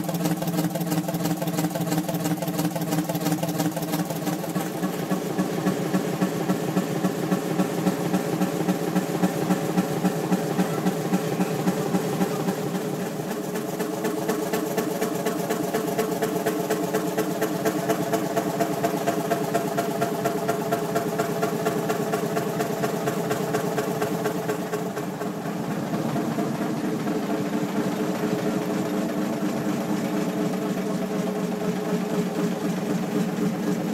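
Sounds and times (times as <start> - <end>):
diesel engine running rhythmically: 0.0 - 33.9.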